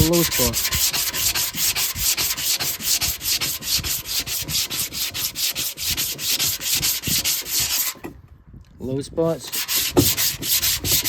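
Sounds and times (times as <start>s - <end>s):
sandpaper rubbing on filler: 0.0s - 8.1s, 9.4s - 11.0s.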